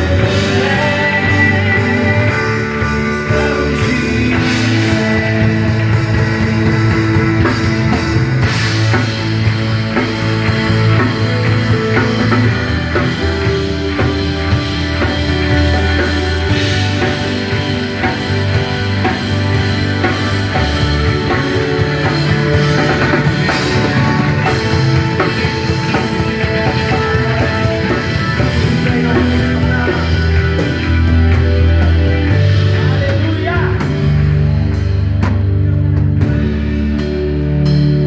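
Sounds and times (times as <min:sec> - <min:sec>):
band playing rock worship song: 0:00.0 - 0:38.0
bass notes: 0:00.0 - 0:38.0
drum kit: 0:00.0 - 0:38.0
guitar: 0:00.0 - 0:38.0.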